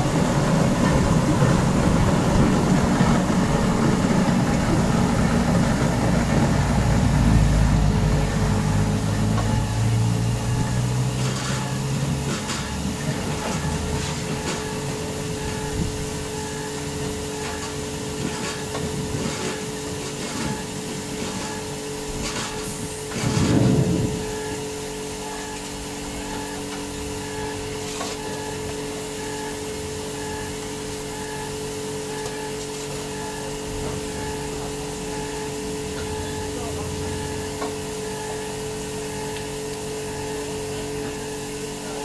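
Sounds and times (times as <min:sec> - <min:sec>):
fruit press machinery humming: 0:00.0 - 0:42.0.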